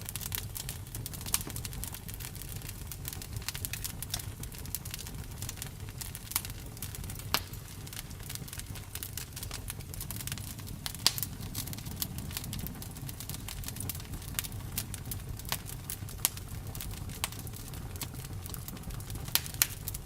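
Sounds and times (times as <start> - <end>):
low steady rumble: 0.0 - 19.4
campfire crackling: 0.0 - 20.0.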